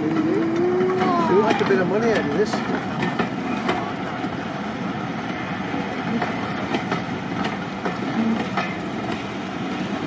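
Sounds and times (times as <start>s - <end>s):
train wheels rumbling: 0.0s - 10.0s
wheels clicking over rail joints: 0.0s - 10.0s.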